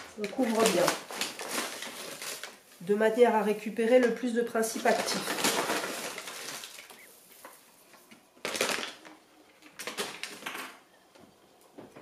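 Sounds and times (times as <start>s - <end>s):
paper bag crinkling: 0.0s - 10.8s.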